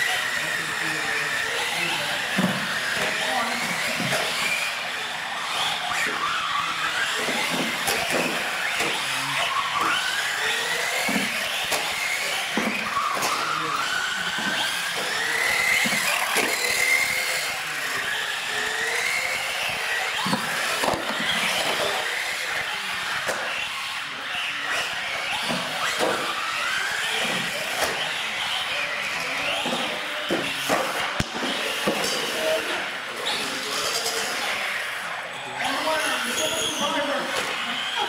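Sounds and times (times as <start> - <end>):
toy truck motors whining: 0.0 - 38.0.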